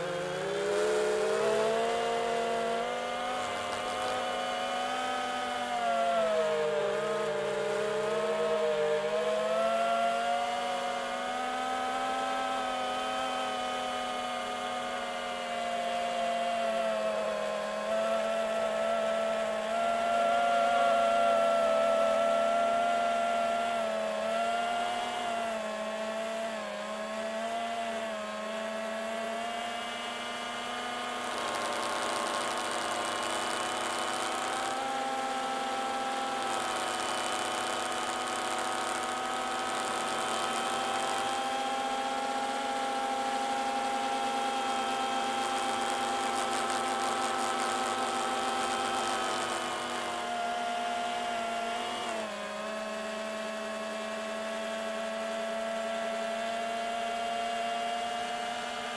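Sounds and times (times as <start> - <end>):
drone motors whining: 0.0 - 57.1.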